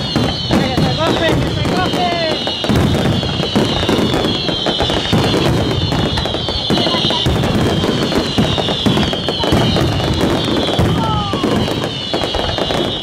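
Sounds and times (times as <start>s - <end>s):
fireworks bangs and crackling: 0.0s - 13.0s
fireworks whistles sliding down: 0.0s - 13.0s.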